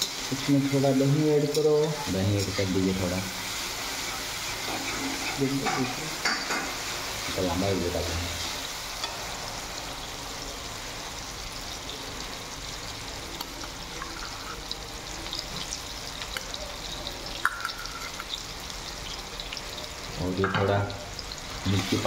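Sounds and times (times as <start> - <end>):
masala sizzling in a pan: 0.0 - 22.0.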